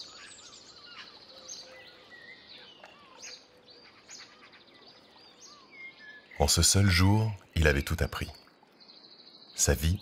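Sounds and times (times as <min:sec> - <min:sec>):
birds chirping and trilling: 0:00.0 - 0:10.0.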